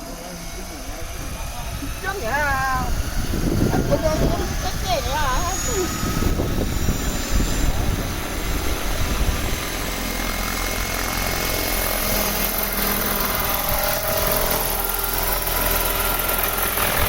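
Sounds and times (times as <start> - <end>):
helicopter rotors whirring: 0.0 - 17.0.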